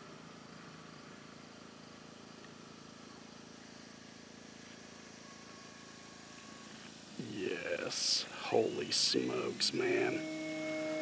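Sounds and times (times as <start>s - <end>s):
electric motor and propeller hum: 0.0s - 11.0s
outdoor hiss: 0.0s - 11.0s.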